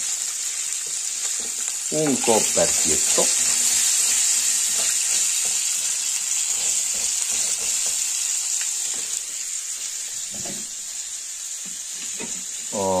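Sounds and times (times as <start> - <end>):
crab frying in hot oil: 0.0 - 13.0.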